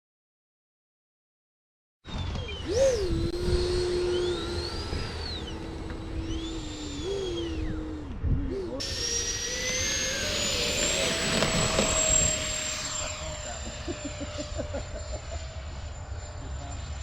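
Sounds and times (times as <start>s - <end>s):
model airplane motor whining: 2.1s - 17.0s.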